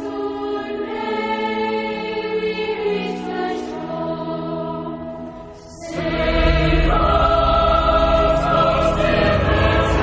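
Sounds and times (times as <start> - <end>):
slow church music chords: 0.0 - 10.0.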